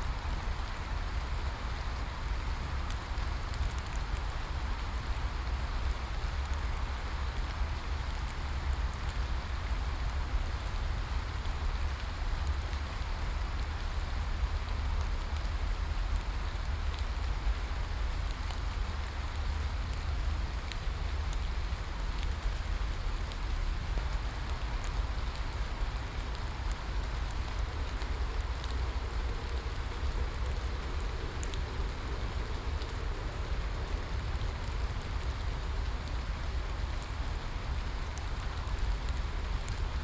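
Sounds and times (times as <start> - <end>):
constant low rumble: 0.0 - 40.0
rain falling: 0.0 - 40.0.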